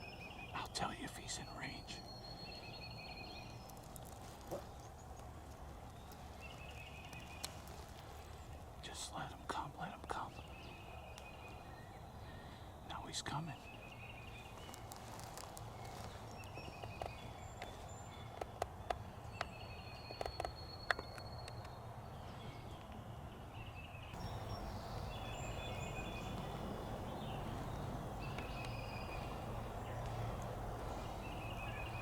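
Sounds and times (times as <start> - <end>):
birds calling: 0.0 - 22.9, 23.6 - 32.0.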